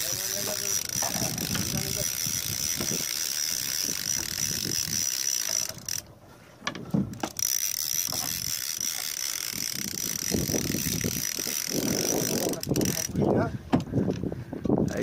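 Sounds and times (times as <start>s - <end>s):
fishing reel clicking: 0.0s - 6.1s, 7.1s - 13.4s.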